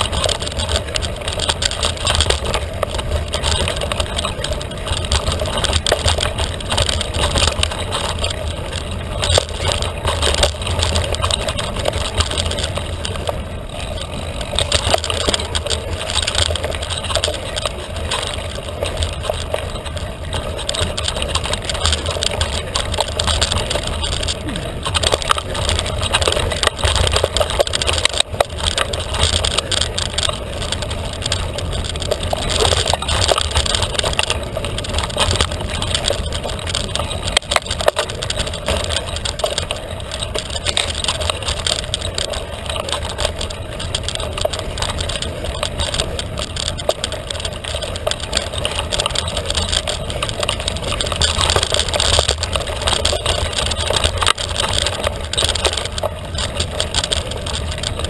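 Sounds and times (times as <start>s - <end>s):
bike rattling over bumps: 0.0s - 58.0s
tyres crunching on dirt: 0.0s - 58.0s.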